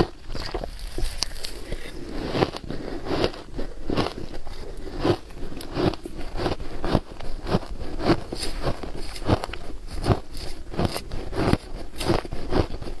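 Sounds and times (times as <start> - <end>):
ice crunching while chewed: 0.0 - 13.0.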